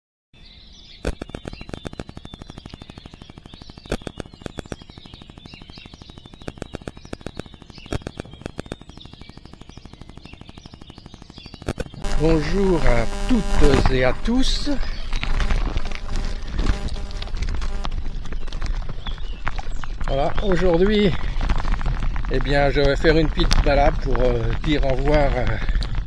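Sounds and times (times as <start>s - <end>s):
birds chirping and singing: 0.4s - 26.0s
rapid regular clicking: 1.0s - 26.0s.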